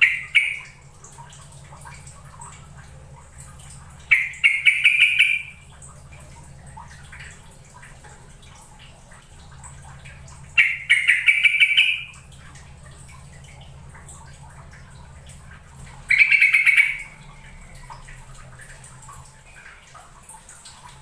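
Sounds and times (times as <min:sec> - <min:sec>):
bird singing bubbly notes: 0:00.0 - 0:02.6, 0:03.9 - 0:08.0, 0:09.6 - 0:19.9.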